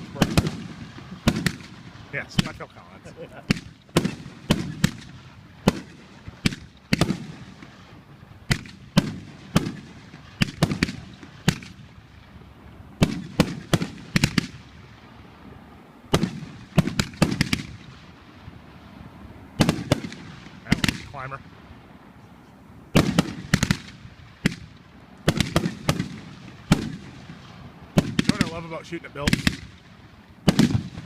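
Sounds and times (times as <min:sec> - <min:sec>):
firework bangs with echo: 0:00.0 - 0:12.2, 0:13.0 - 0:15.0, 0:16.1 - 0:19.0, 0:19.6 - 0:21.7, 0:22.9 - 0:31.0.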